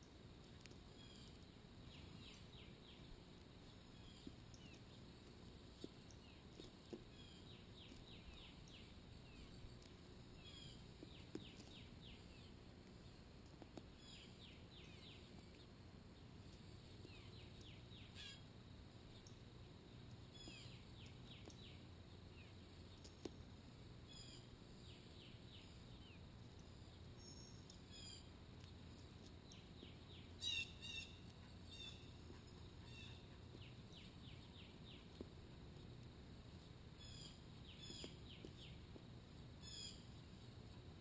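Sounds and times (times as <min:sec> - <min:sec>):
low steady rumble: 0:00.0 - 0:41.0
small birds chirping: 0:00.0 - 0:41.0.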